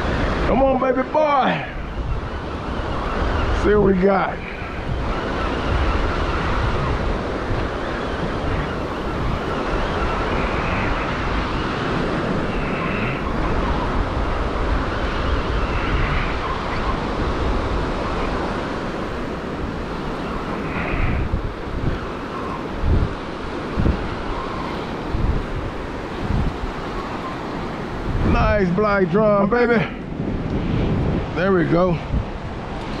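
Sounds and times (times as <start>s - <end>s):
surf washing in: 0.0s - 33.0s
wind buffeting microphone: 0.0s - 33.0s.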